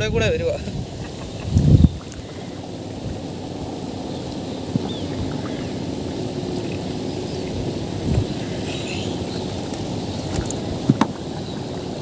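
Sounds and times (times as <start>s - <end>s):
wind rumbling on microphone: 0.0s - 12.0s
faint steady drone: 0.8s - 12.0s.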